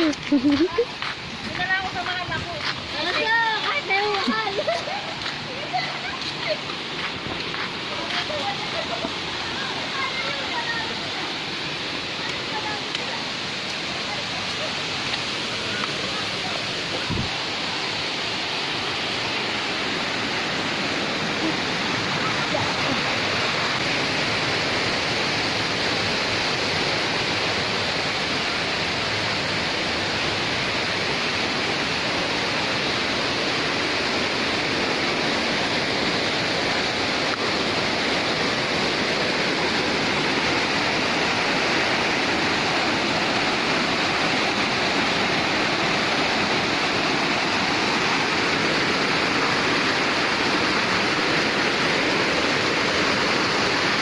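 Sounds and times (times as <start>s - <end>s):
waterfall pouring into a pool: 3.3s - 54.0s.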